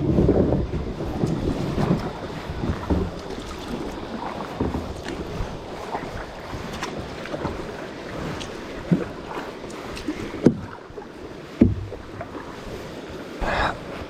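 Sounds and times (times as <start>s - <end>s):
paddle splashing in water: 0.0s - 14.0s
wind buffeting microphone: 0.0s - 14.0s.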